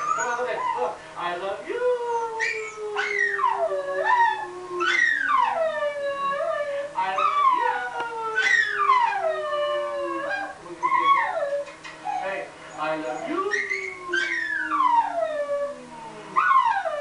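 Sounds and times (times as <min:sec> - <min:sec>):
dog howling: 0:00.0 - 0:01.0, 0:01.8 - 0:17.0
low steady voice: 0:00.0 - 0:16.4.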